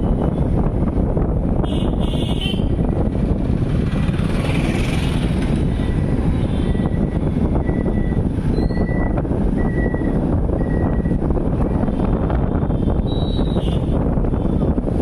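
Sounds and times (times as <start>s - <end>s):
moving vehicle noise: 0.0s - 15.0s
wind rumble on microphone: 0.0s - 15.0s.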